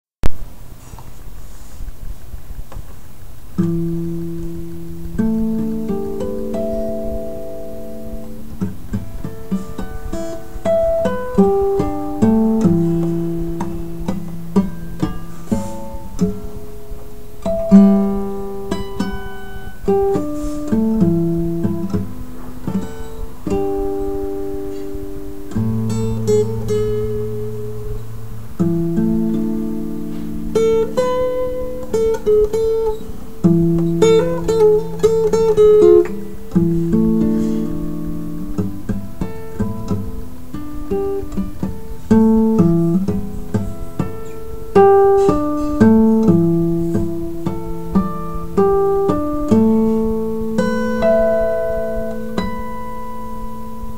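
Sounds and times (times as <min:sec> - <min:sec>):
acoustic guitar playing: 0:03.3 - 0:53.9.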